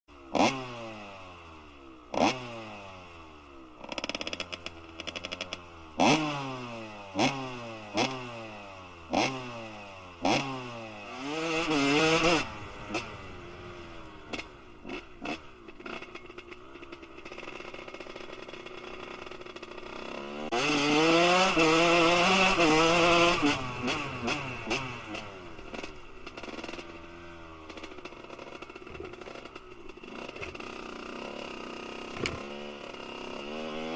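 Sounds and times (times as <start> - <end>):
dirt bike engine revving: 0.2 - 33.9.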